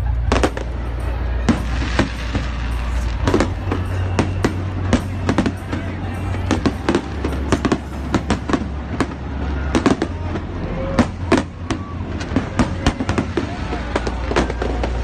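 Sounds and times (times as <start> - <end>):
fireworks bursting: 0.0 - 15.0
music with low bass: 0.0 - 15.0.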